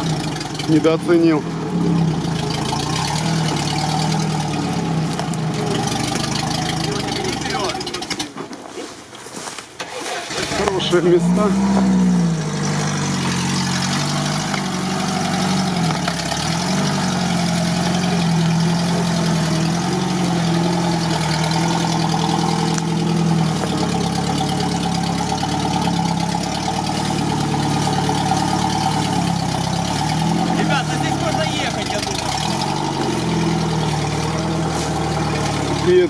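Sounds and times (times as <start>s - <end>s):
off-road vehicle engine under load: 0.0s - 36.0s.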